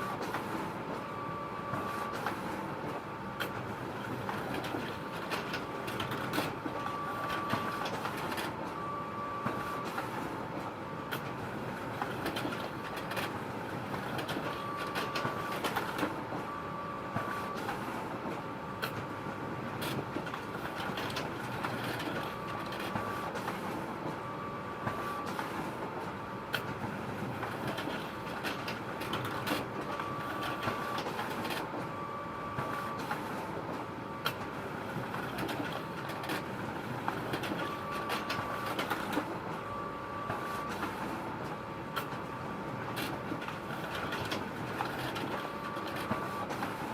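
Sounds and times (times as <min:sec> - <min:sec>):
photocopier whirring: 0:00.0 - 0:46.9.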